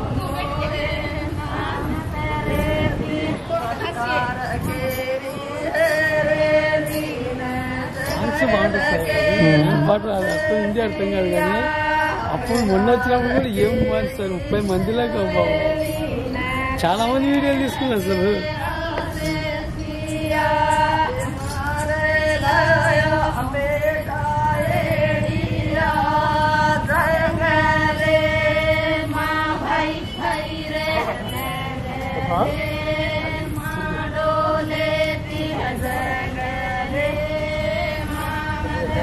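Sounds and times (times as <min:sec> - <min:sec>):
women singing folk song together: 0:00.0 - 0:39.0.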